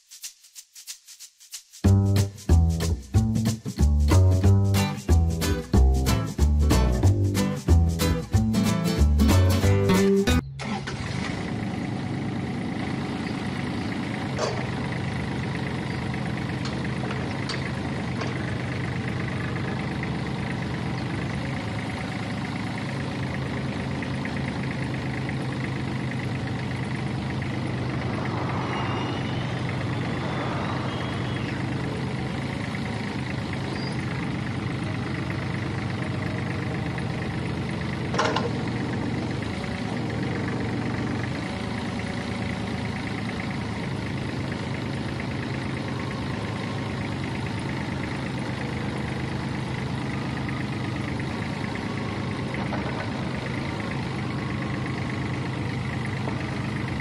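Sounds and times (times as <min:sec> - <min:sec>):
excavator diesel engine running: 0:01.9 - 0:57.0.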